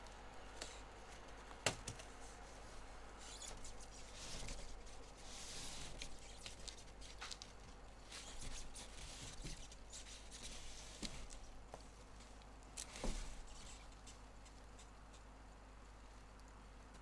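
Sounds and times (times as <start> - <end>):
faint rustling: 0.0 - 17.0.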